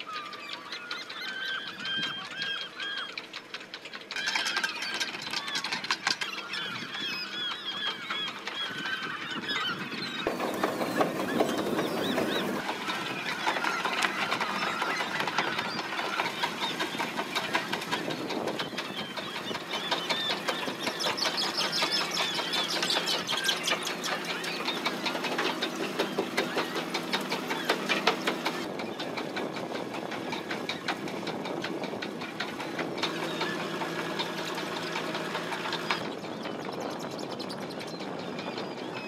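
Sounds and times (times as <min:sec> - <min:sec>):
seagulls calling: 0:00.0 - 0:39.0.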